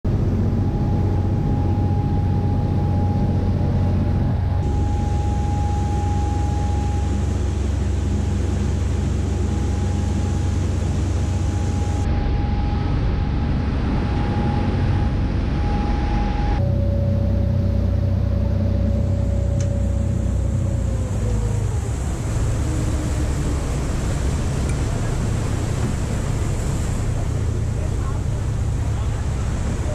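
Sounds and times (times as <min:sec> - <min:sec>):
boat engines droning with whine: 0:00.0 - 0:29.9
water rushing in wake: 0:00.1 - 0:29.9.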